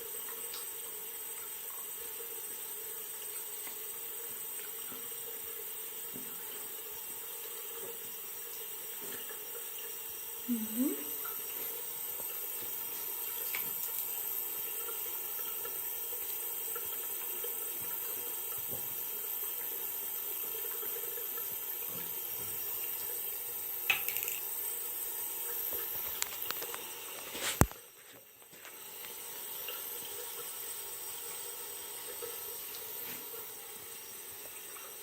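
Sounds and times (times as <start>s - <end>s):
tap water running into sink: 0.0s - 35.0s.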